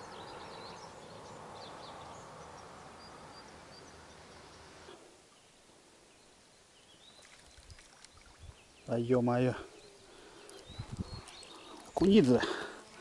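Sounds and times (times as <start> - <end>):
faint bird chirps: 0.0 - 12.4
steady outdoor hiss: 0.0 - 13.0.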